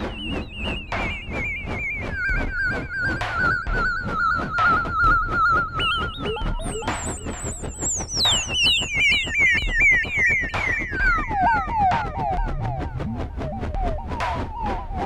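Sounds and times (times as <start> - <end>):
warbling synthesizer tone: 0.0 - 15.0.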